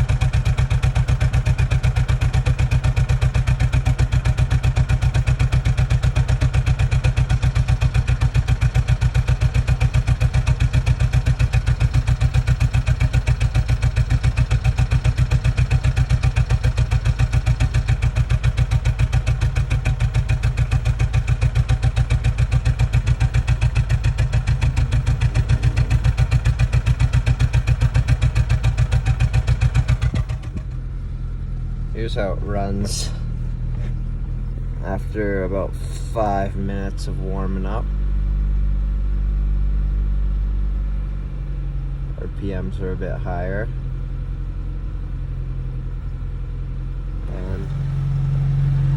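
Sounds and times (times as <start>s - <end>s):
engine idling rough: 0.0s - 48.9s.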